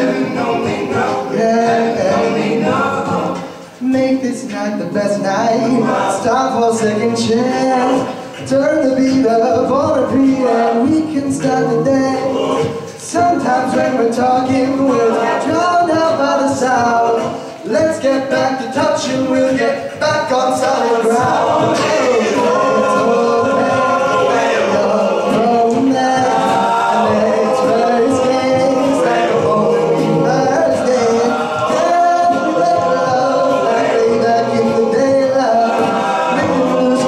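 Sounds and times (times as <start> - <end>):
male a cappella singing: 0.0 - 37.0.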